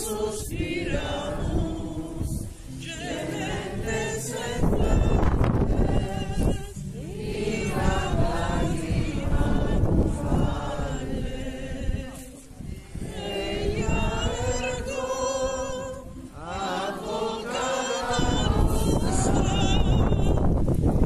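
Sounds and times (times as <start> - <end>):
crowd singing a hymn: 0.0 - 21.0.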